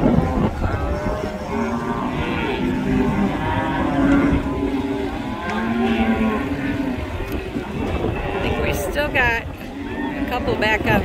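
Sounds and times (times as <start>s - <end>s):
cattle mooing: 0.0s - 11.0s
low rumble: 0.0s - 11.0s.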